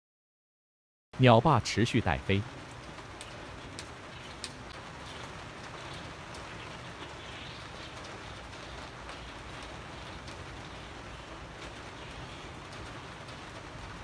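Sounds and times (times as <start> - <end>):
raindrops ticking on surfaces: 1.2 - 14.0
steady rain falling: 1.2 - 14.0.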